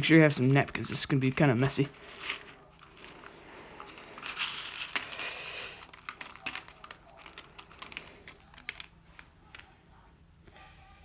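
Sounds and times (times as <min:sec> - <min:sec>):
seeds rustling and clicking: 0:00.0 - 0:09.8.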